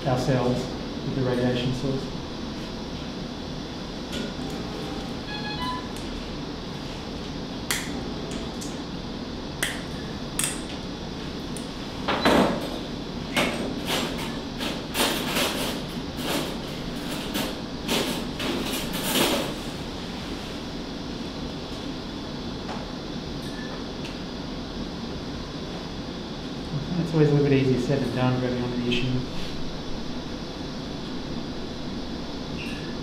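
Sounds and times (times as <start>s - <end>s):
background hum: 0.0s - 33.0s.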